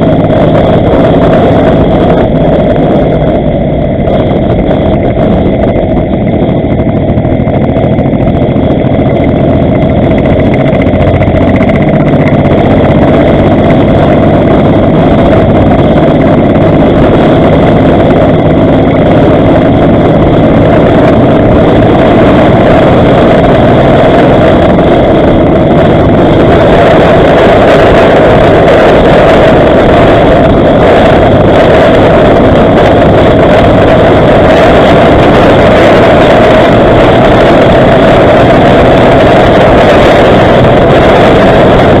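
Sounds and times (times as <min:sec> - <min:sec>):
motorcycle engine cruising: 0:00.0 - 0:42.0
wind and road noise: 0:00.0 - 0:42.0.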